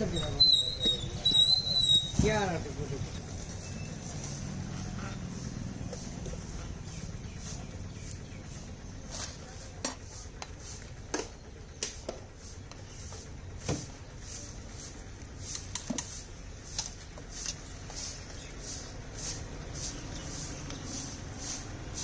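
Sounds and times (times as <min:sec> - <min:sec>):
gas burner rumble: 0:00.0 - 0:22.0.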